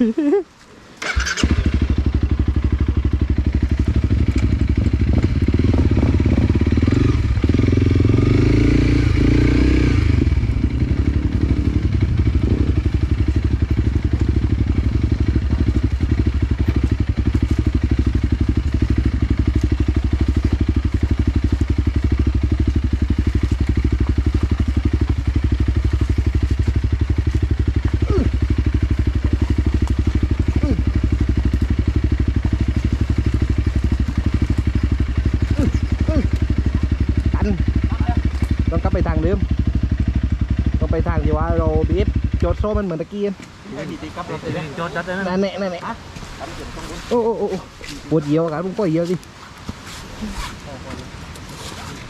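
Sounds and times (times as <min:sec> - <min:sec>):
dirt bike engine revving and idling: 0:01.0 - 0:52.0.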